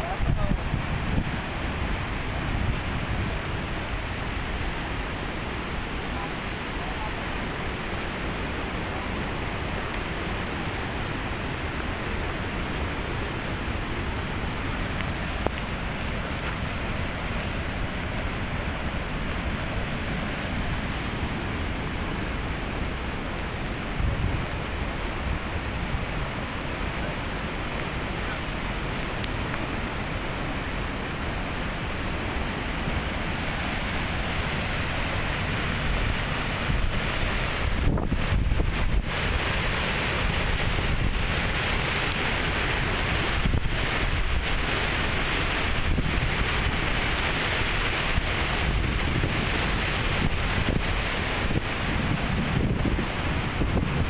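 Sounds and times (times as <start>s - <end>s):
floodwater rushing and cascading: 0.0s - 54.0s.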